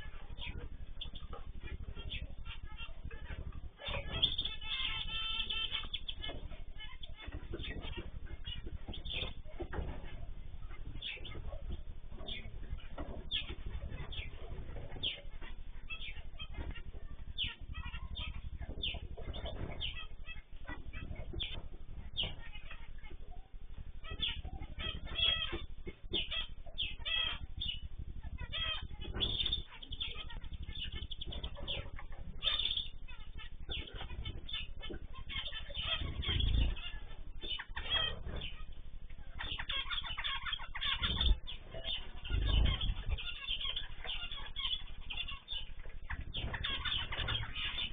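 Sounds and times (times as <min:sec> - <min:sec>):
cage birds chirping: 0:00.0 - 0:47.9.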